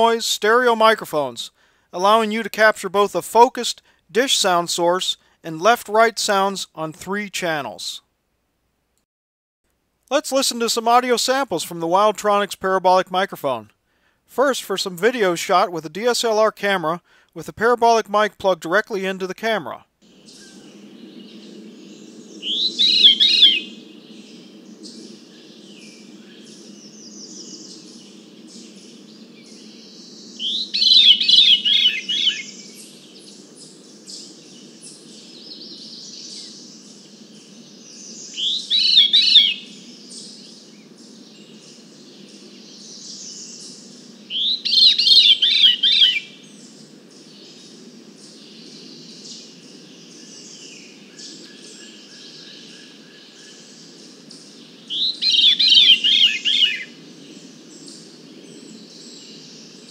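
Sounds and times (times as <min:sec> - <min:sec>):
bird singing fluty phrases: 0:00.0 - 0:07.9, 0:18.7 - 0:59.8.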